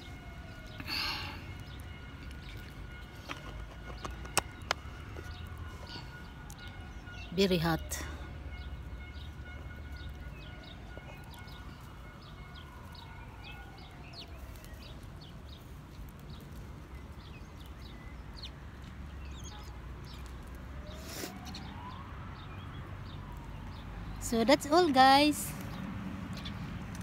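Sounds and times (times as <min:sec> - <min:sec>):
faint siren: 0:00.0 - 0:26.9
small birds chirping: 0:00.0 - 0:27.0.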